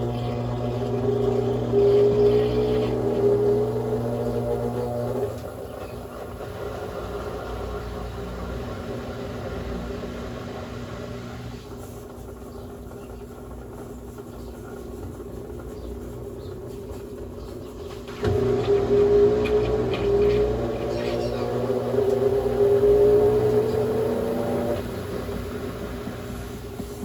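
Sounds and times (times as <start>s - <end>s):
washing machine motor hum: 0.0s - 27.0s
washing machine running: 0.0s - 27.0s.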